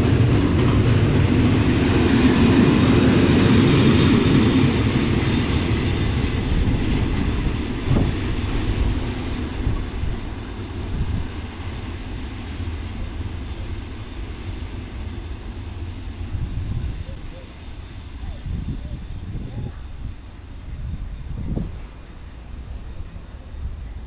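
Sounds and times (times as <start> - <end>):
freight train wagons rumbling: 0.0 - 24.0.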